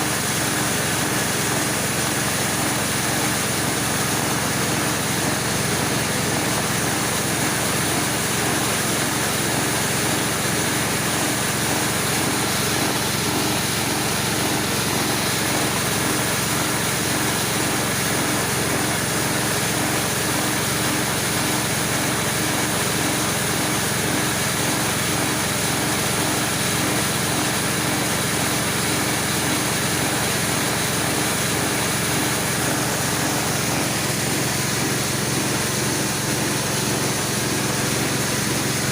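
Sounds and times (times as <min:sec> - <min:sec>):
corn grinding machine running: 0:00.0 - 0:38.9.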